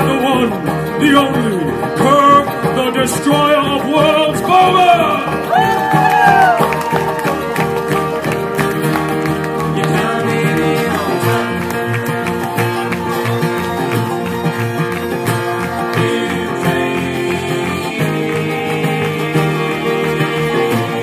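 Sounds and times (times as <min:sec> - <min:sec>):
bluegrass string band playing: 0:00.0 - 0:21.0
plucked upright bass beat: 0:00.0 - 0:21.0.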